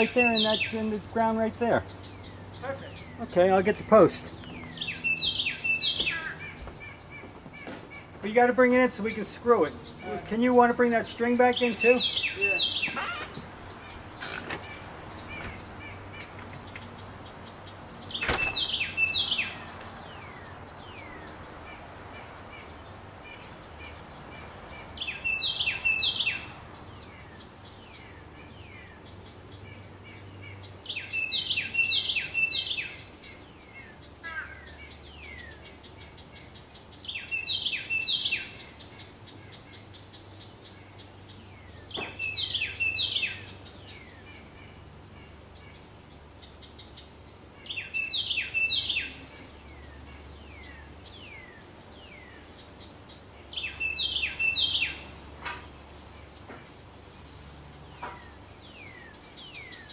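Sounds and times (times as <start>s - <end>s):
songbird singing repeated notes: 0.0s - 59.9s.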